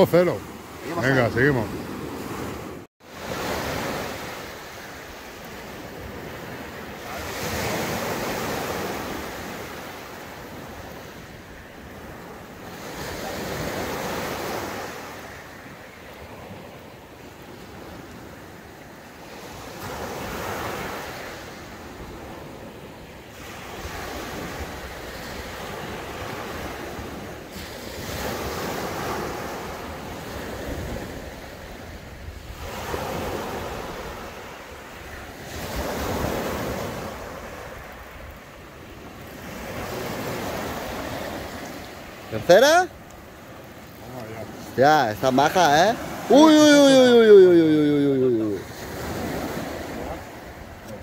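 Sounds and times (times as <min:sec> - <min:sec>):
sea waves breaking on beach: 0:00.0 - 0:51.0.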